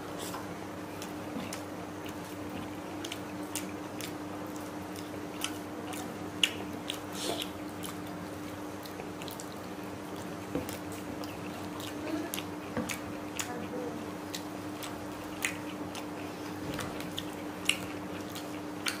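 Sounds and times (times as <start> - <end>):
fingers mixing wet food: 0.0 - 19.0
steady low hum: 0.0 - 19.0.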